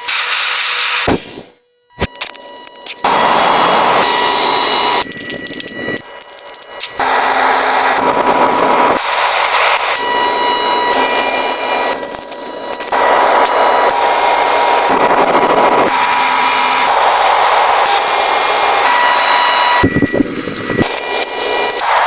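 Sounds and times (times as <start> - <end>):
power tools whirring: 0.0 - 22.0.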